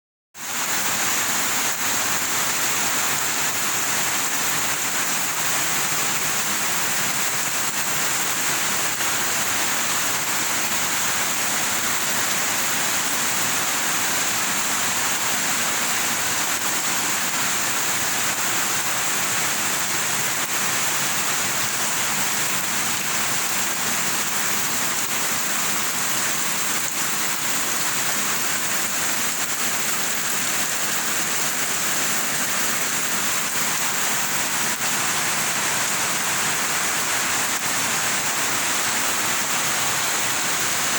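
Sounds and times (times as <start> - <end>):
heavy rain: 0.4 - 40.9.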